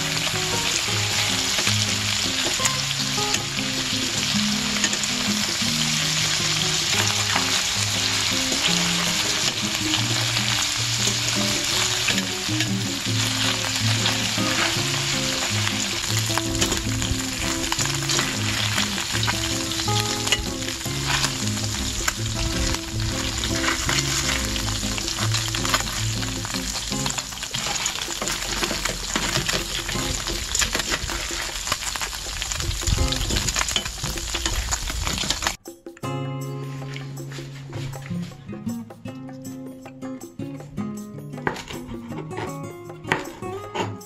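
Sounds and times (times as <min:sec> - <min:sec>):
background music: 0:00.0 - 0:31.5, 0:35.6 - 0:44.0
chicken sizzling in skillet: 0:00.0 - 0:35.6.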